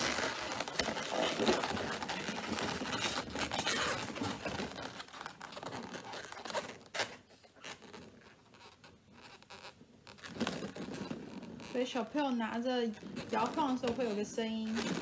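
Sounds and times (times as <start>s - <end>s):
balloons rubbing together: 0.0s - 15.0s.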